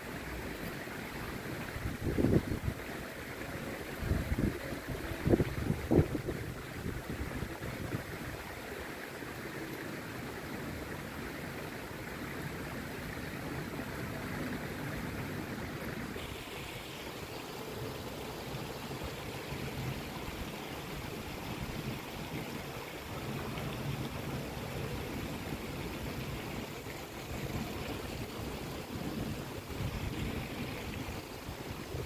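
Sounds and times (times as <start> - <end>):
rain falling on a pond: 0.0 - 32.0
rush of running water: 0.0 - 32.0.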